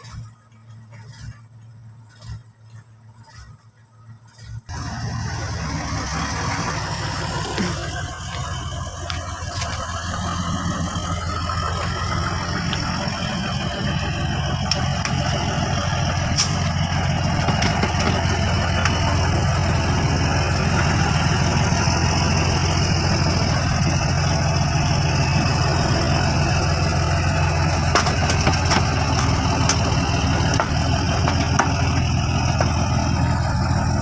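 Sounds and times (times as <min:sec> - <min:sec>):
truck engine droning: 0:00.0 - 0:34.0.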